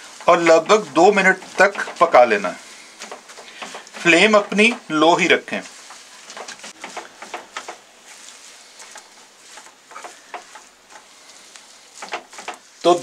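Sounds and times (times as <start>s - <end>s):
faint hiss: 0.0s - 13.0s
spatula scraping a pan: 0.0s - 13.0s.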